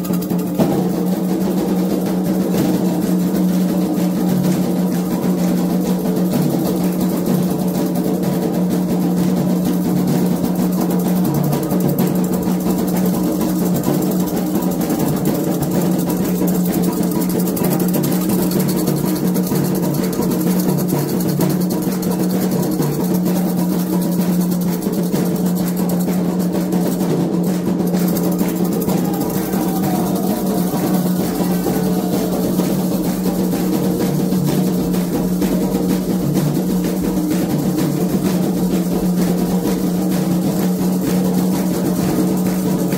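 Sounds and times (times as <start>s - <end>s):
hand drums playing rhythms: 0.0s - 42.9s.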